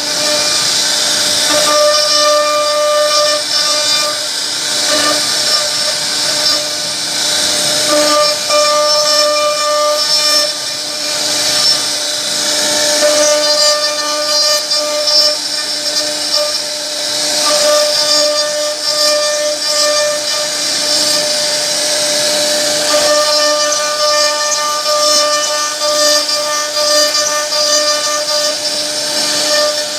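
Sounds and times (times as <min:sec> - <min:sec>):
bit cutting wood hiss: 0:00.0 - 0:29.9
router spindle whine: 0:00.0 - 0:29.9.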